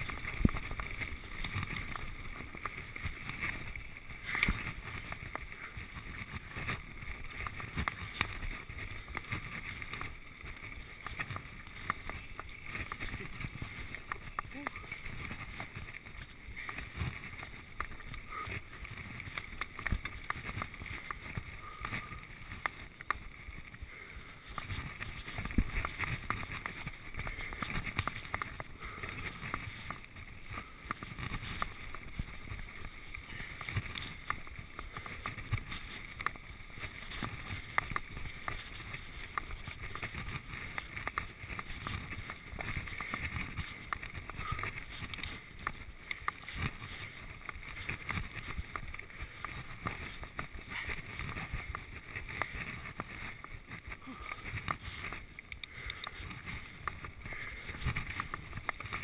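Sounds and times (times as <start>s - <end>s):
bike rattles and knocks: 0.0s - 23.8s, 24.4s - 59.0s
bike tyres rumbling on gravel: 0.0s - 59.0s.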